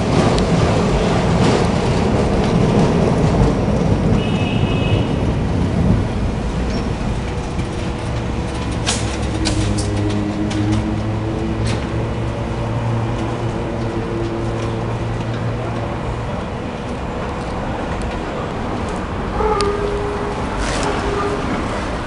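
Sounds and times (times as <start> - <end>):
streetcar running on rails: 0.0 - 22.0.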